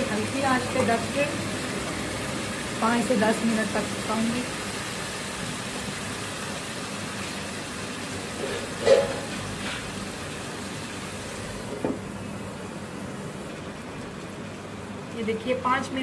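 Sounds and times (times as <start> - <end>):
curry hissing in a pan: 0.0 - 15.8.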